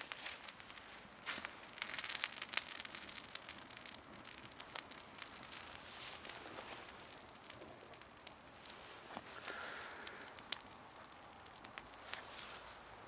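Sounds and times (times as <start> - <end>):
campfire crackling: 0.0 - 13.0
fire popping and snapping: 0.0 - 13.0.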